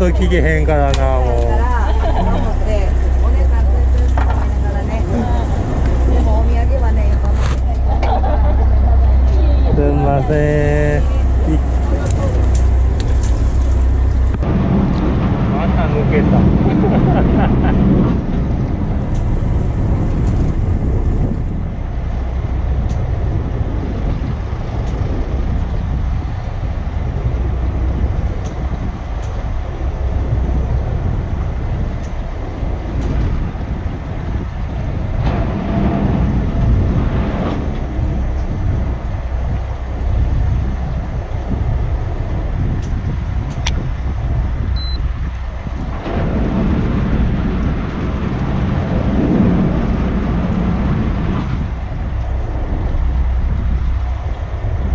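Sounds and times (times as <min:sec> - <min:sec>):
boat engine rumbling: 0:00.0 - 0:54.9
wind buffeting microphone: 0:00.0 - 0:54.9.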